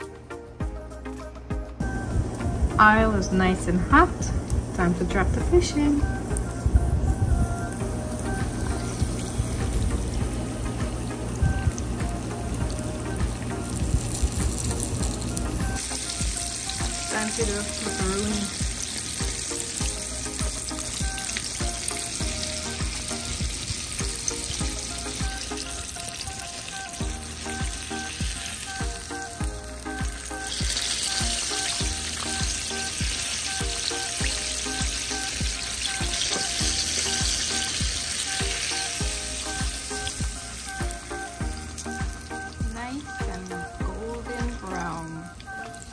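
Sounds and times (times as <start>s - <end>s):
background music with steady beat: 0.0s - 45.9s
fish sizzling in hot oil: 7.4s - 45.9s.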